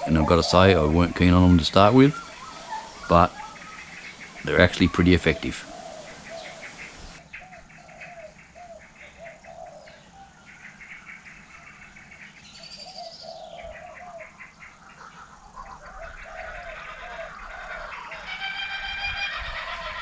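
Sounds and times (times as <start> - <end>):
rapid high bird chirping: 0.0 - 18.9
low curved bird calls: 0.0 - 20.0.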